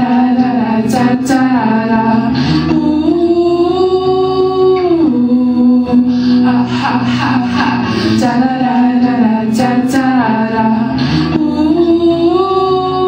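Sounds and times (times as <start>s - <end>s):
live music accompaniment: 0.0s - 13.0s
person singing long note: 2.1s - 13.0s.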